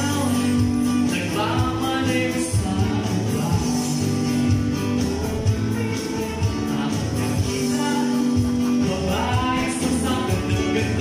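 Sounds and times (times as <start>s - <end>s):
acoustic guitar: 0.0s - 11.0s
keyboard chords: 0.0s - 11.0s
light percussion beat: 0.0s - 11.0s
man singing: 0.0s - 11.0s.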